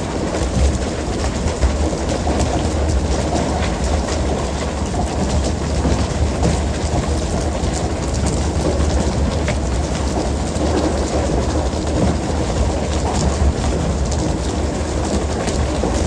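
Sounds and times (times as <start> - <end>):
water rushing along hull: 0.0 - 16.0.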